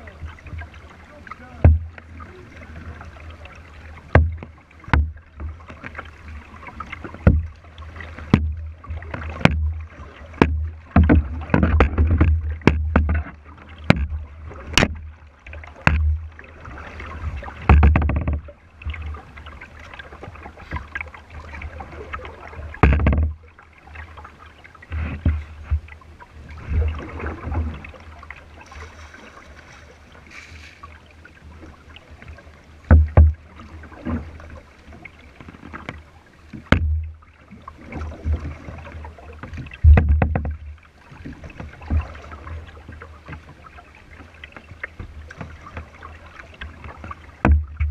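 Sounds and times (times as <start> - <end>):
knocks and thumps through hull: 0.0 - 47.9
water splashing along hull: 0.0 - 47.9.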